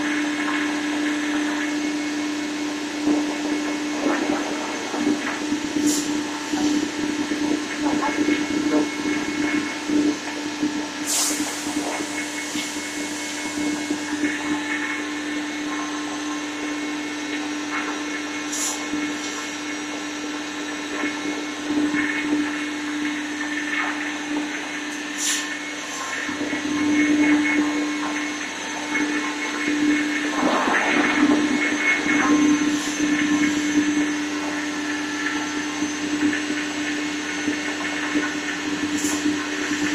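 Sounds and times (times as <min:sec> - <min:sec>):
cnc router whining: 0:00.0 - 0:39.9.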